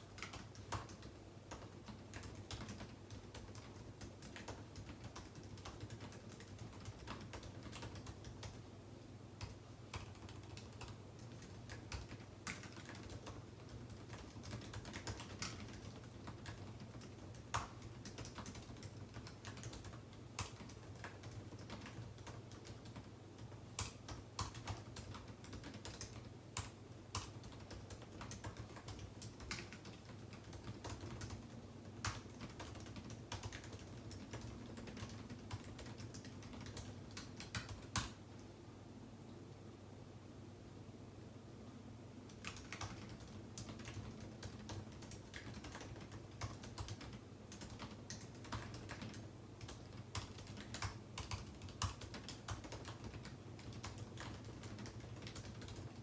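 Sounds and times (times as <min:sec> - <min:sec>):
computer keyboard typing: 0:00.0 - 0:08.7, 0:09.4 - 0:38.2, 0:42.3 - 0:56.0.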